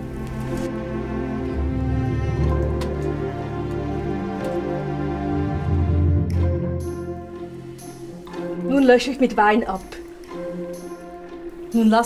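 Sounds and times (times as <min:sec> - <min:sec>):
slow background music: 0:00.0 - 0:12.0.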